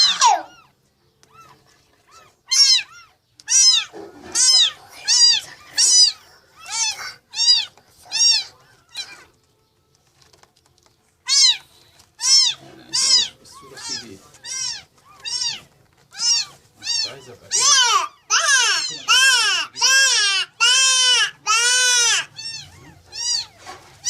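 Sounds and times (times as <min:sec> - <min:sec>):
newborn kitten mewing: 0:00.0 - 0:00.7, 0:02.5 - 0:09.3, 0:11.2 - 0:11.6, 0:12.2 - 0:23.7.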